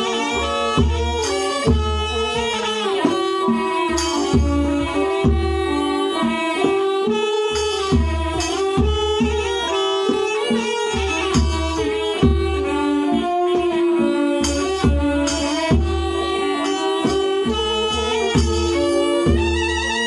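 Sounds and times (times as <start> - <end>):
barrel drum beat: 0.0 - 20.0
bowed fiddle melody: 0.0 - 20.0.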